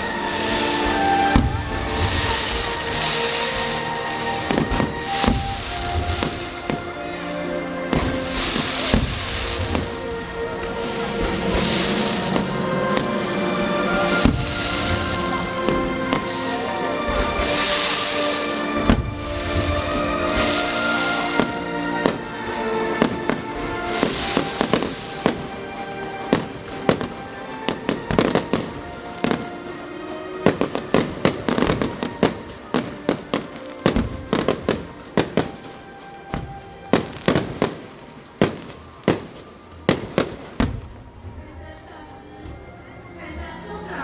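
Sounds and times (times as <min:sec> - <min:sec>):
music playing: 0:00.0 - 0:44.0
fireworks bangs and pops: 0:00.3 - 0:07.1, 0:07.8 - 0:29.6, 0:30.4 - 0:41.1.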